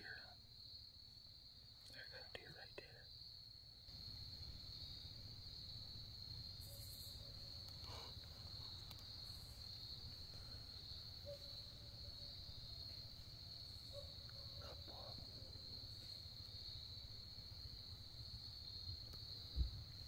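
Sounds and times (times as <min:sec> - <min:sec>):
insect chorus trilling: 0:00.0 - 0:20.0.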